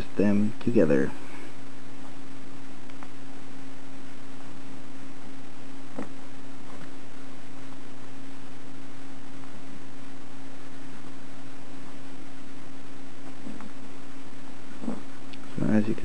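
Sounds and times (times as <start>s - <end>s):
steady low hum with hiss: 0.0s - 16.0s.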